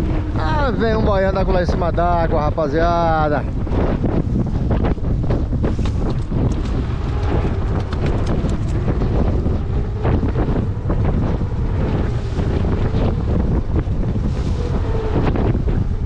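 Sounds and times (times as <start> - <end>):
faint boat hum: 0.0 - 16.0
seawater washing: 0.0 - 16.0
wind buffeting microphone: 0.0 - 16.0.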